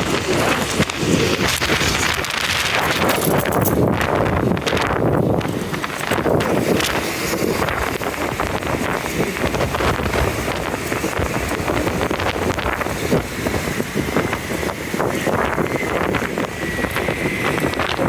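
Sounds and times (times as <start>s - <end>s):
vehicle engine rumble: 0.0s - 18.0s
wind buffeting microphone: 0.0s - 18.0s.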